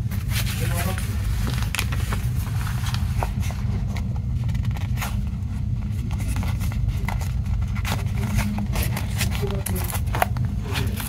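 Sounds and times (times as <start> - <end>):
low background rumble: 0.0 - 11.0
paper sheets rustling: 0.0 - 11.0.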